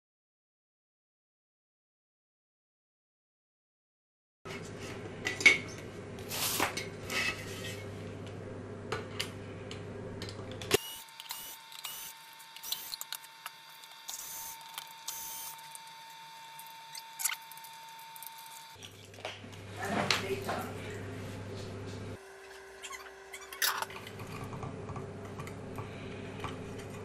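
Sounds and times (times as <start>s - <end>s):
low background hum: 4.5s - 27.0s.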